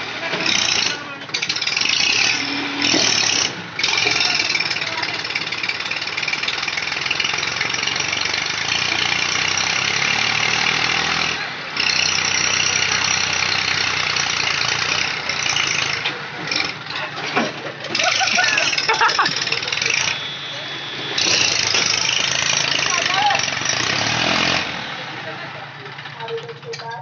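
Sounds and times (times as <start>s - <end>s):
voices: 0.0s - 6.6s, 11.3s - 27.0s
tractor engine running: 0.0s - 27.0s.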